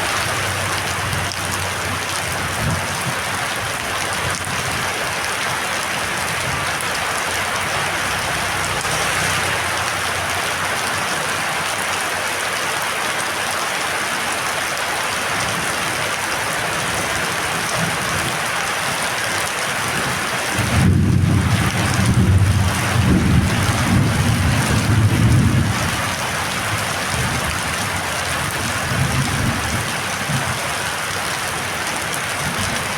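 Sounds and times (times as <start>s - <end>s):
heavy rain falling: 0.0s - 32.9s.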